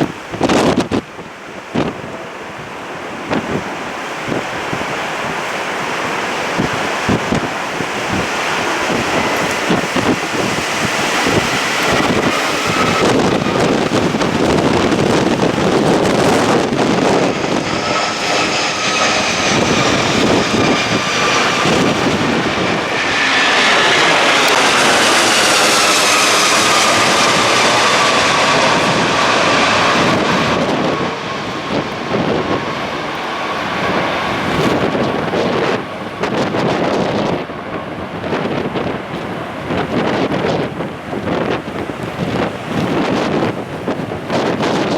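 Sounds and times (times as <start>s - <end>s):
jet engines passing overhead: 0.0s - 44.9s.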